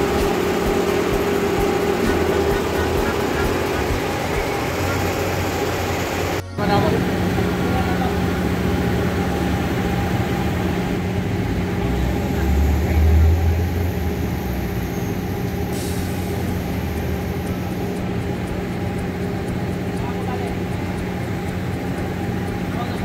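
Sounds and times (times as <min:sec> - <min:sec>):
heavy vehicle engine running: 0:00.0 - 0:23.0
street traffic: 0:00.0 - 0:23.0.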